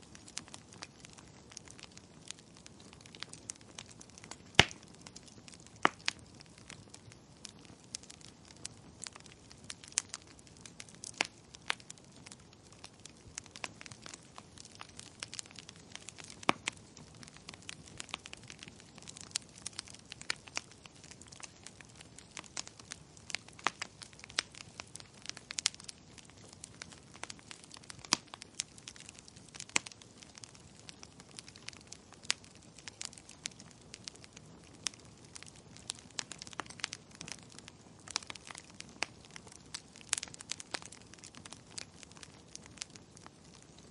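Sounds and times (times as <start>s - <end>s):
firewood crackling and popping: 0.0s - 43.9s.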